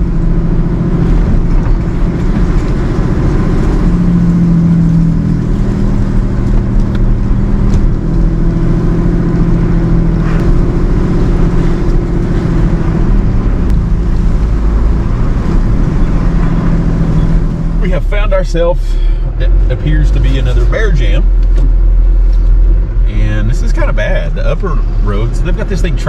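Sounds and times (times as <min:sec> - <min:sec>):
road rumble: 0:00.0 - 0:26.0
truck engine running: 0:00.0 - 0:26.0.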